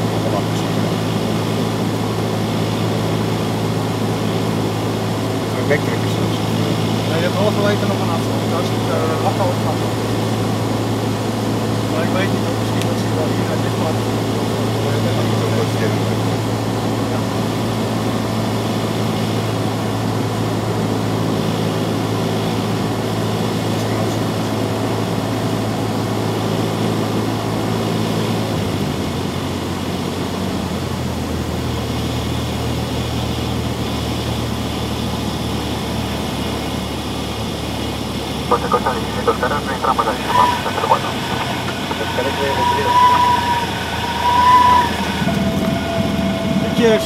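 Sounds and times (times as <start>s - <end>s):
propeller plane engine droning: 0.0s - 47.0s.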